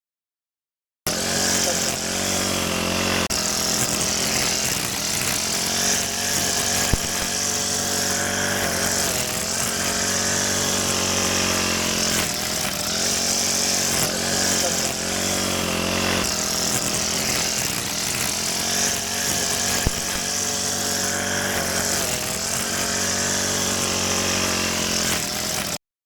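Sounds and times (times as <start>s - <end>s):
grass cutter engine running: 1.1s - 25.8s.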